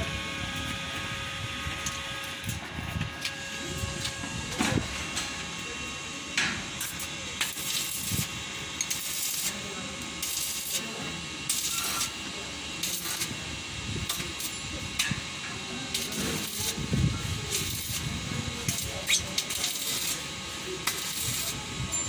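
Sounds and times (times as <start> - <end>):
welding arc crackling: 0.0 - 22.0.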